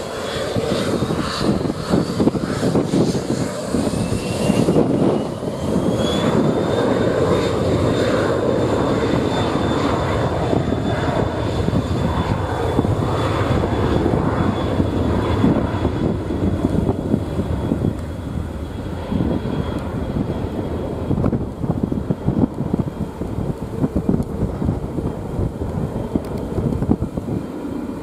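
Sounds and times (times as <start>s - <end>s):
jet engine whine: 0.0s - 28.0s
loud rushing jet noise: 0.0s - 28.0s.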